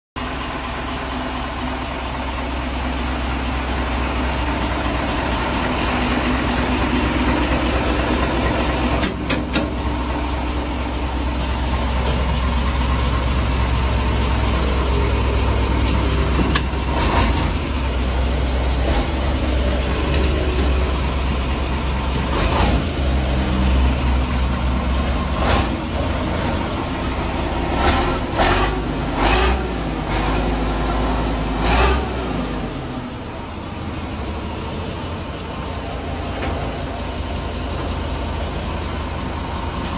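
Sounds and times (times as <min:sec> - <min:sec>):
diesel truck engine running: 0:00.2 - 0:39.9.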